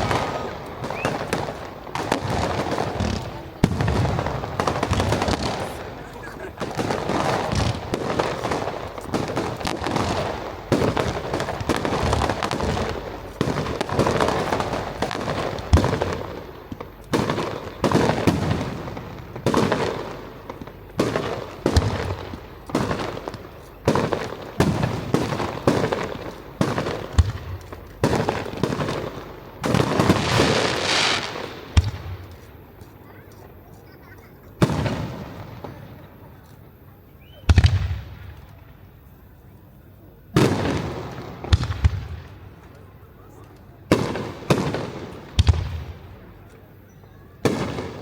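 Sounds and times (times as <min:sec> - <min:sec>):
fireworks bursting: 0:00.0 - 0:48.0
fireworks crackle and echo: 0:00.0 - 0:48.0.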